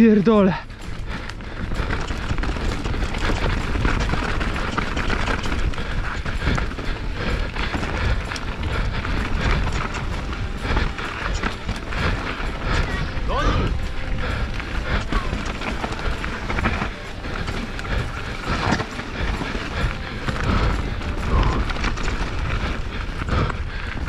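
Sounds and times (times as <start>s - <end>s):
bike frame and chain rattling: 0.0s - 24.0s
bike tyres rolling over dirt: 0.0s - 24.0s
wind rumble on microphone: 0.6s - 24.0s.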